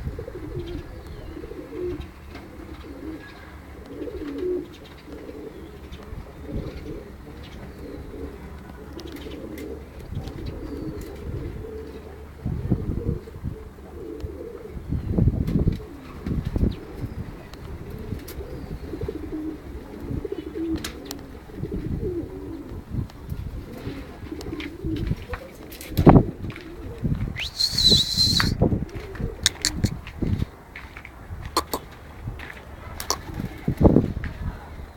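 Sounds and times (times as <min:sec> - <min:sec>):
pigeons cooing: 0:00.0 - 0:30.5, 0:31.5 - 0:32.0, 0:32.8 - 0:34.0.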